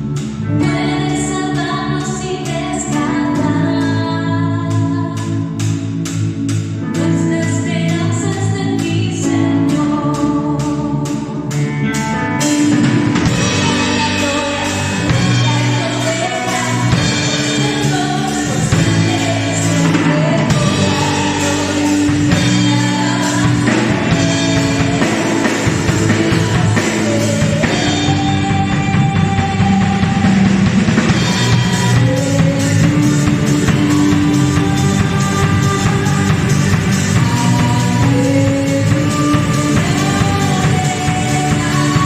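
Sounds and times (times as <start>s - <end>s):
full band playing: 0.0s - 42.0s
worship song singing: 6.9s - 42.0s.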